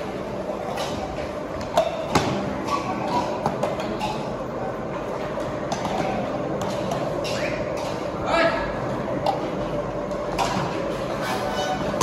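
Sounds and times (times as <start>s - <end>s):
workshop background din: 0.0s - 12.0s.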